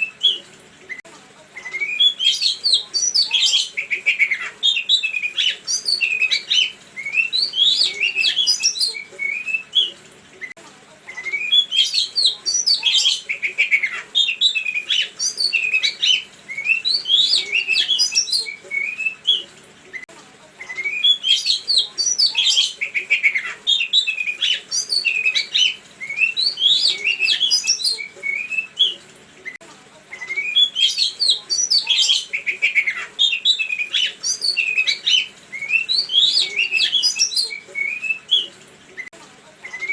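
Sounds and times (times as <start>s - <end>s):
songbird chirping and whistling: 1.6s - 10.5s, 11.1s - 20.0s, 20.6s - 29.6s, 30.2s - 39.9s.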